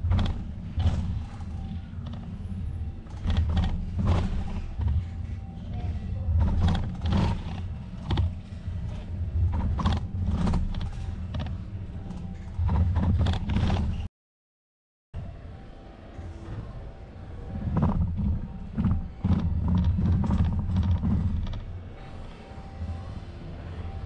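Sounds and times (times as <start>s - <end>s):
bicycle rattles and creaks: 0.0s - 14.1s, 16.2s - 22.2s.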